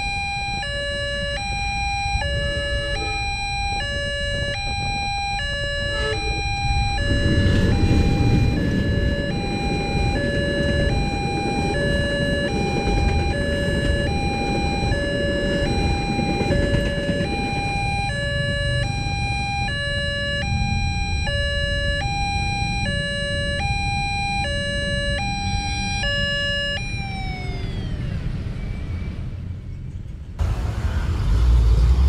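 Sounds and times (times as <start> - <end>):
level crossing two-tone siren: 0.0 - 29.2
road traffic: 0.0 - 32.0
low rumble of passing train: 1.2 - 32.0.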